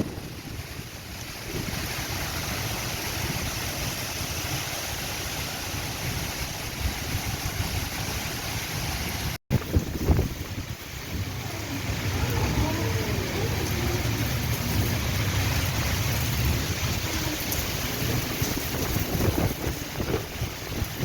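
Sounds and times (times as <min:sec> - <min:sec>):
wind buffeting microphone: 0:00.0 - 0:04.7, 0:05.6 - 0:21.0
heavy rain hissing: 0:00.0 - 0:21.0.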